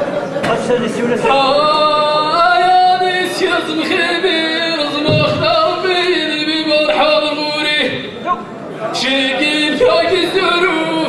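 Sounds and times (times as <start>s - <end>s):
man chanting into a microphone: 0.5s - 8.2s, 8.9s - 11.0s.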